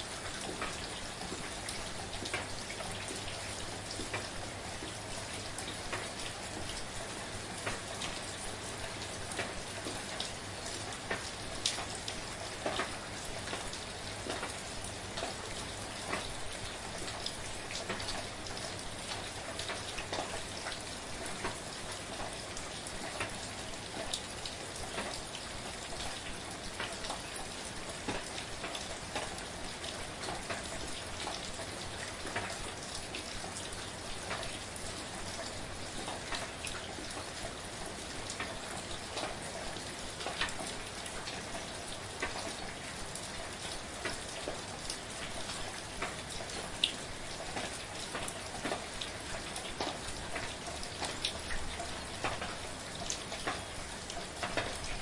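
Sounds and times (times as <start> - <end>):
gentle rain falling: 0.0 - 55.0
raindrops ticking on surface: 0.0 - 55.0.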